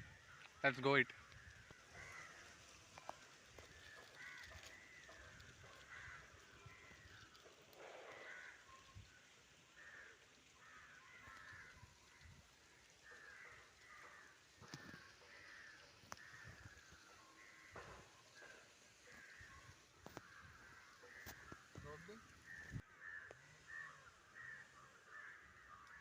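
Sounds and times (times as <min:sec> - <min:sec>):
crows cawing: 0:00.1 - 0:26.0.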